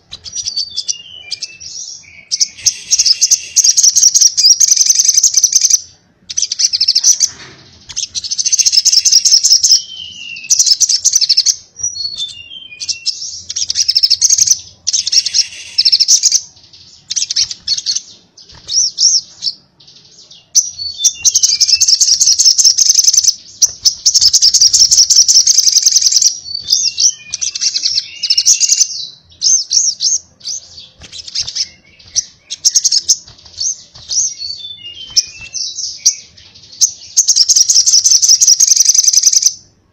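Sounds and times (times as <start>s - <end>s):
bird trilling: 0.0s - 19.6s, 20.6s - 39.6s
falling bird chirps: 0.0s - 39.7s.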